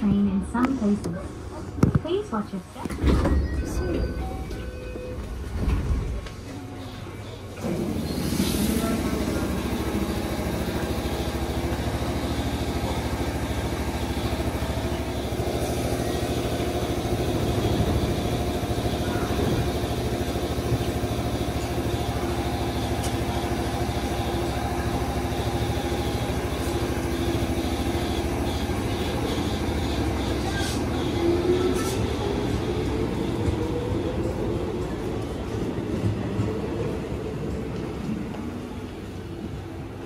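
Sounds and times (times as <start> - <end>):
electric train humming: 3.9 - 40.0.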